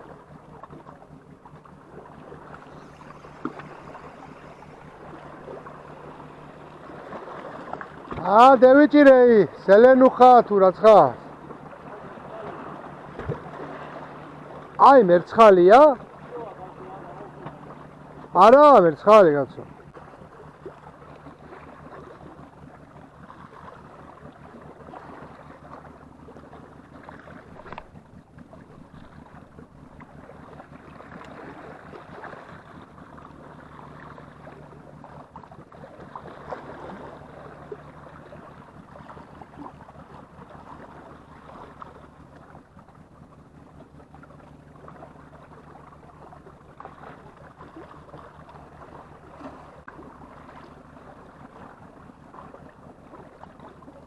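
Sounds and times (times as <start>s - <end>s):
low even hum: 0.0s - 54.0s
sea water washing: 0.0s - 54.0s.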